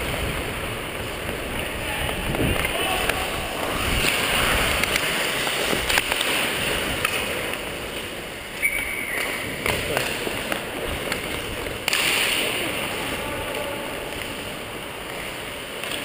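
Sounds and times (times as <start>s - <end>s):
skates scraping on ice: 0.0s - 16.0s
hockey sticks clacking: 1.0s - 16.0s.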